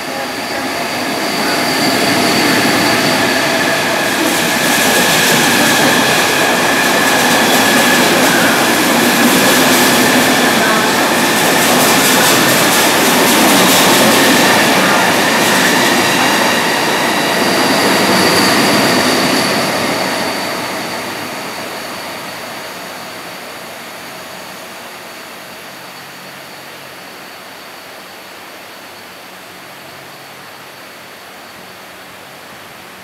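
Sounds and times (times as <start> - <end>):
train passing at speed: 0.0 - 33.0.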